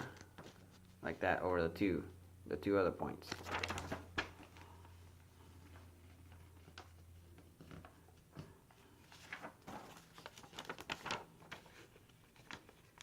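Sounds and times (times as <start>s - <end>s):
paper rustling and creasing: 0.1s - 1.0s, 3.2s - 13.0s.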